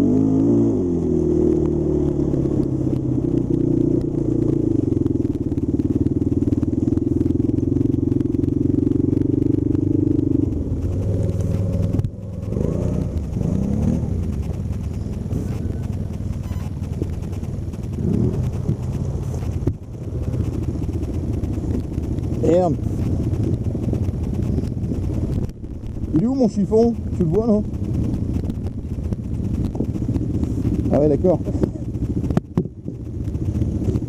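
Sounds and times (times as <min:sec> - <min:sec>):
quad bike engine running: 0:00.0 - 0:34.0.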